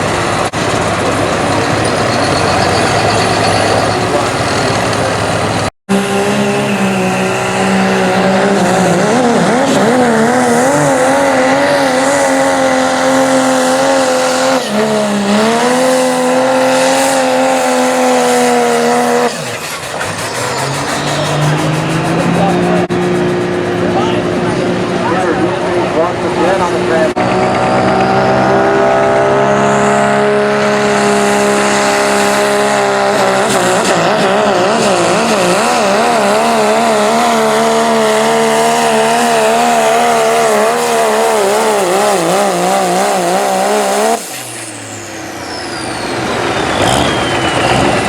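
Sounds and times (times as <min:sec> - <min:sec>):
pickup engine revving under load: 0:00.0 - 0:48.0.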